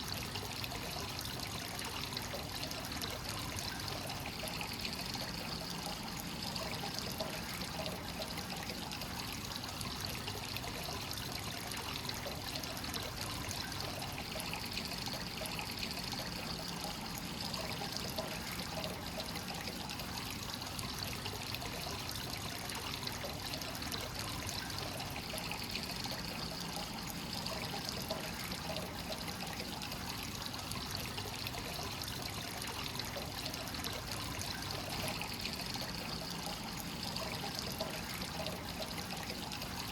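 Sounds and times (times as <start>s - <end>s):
water pouring into a bath: 0.0s - 39.9s.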